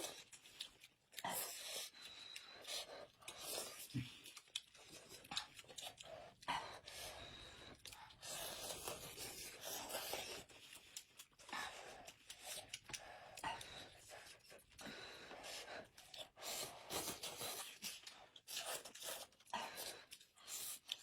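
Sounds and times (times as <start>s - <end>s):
chewing and mouth noises: 0.0s - 21.0s.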